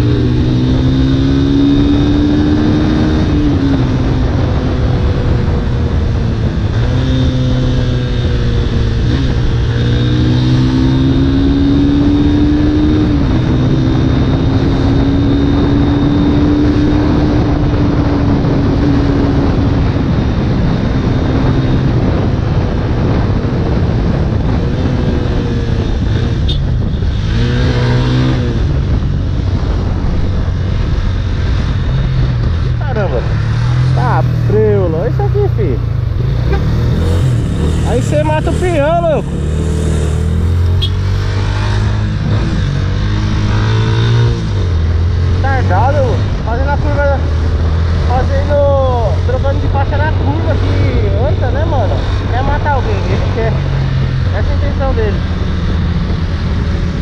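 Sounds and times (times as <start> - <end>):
motorcycle engine accelerating: 0.0 - 57.0
wind rush on microphone: 0.0 - 57.0.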